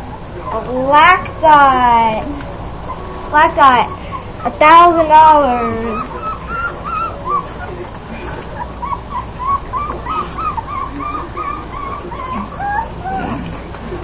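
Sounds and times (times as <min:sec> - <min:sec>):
puppies whimpering: 0:00.0 - 0:00.9, 0:02.8 - 0:14.0.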